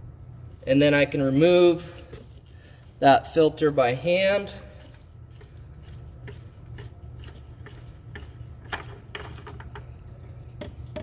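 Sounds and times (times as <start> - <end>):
low steady hum: 0.0 - 11.0
oil filter rubbing and clicking: 1.6 - 11.0.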